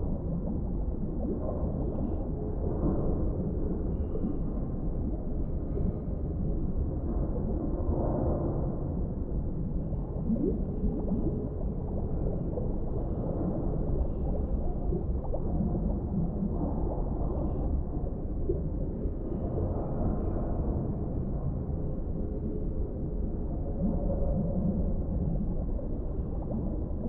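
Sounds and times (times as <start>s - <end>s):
bubbling gurgles: 0.0s - 27.0s
low underwater rumble: 0.0s - 27.0s.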